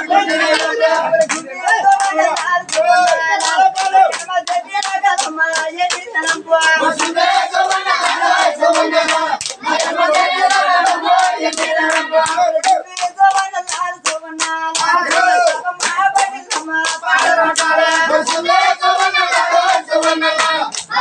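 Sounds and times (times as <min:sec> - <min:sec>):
hands clapping in rhythm: 0:00.0 - 0:21.0
men singing together: 0:00.0 - 0:21.0.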